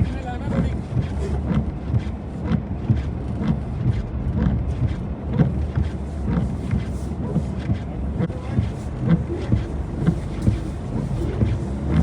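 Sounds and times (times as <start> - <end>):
engine and road rumble: 0.0 - 12.0
vehicle knocks and thumps: 0.0 - 12.0.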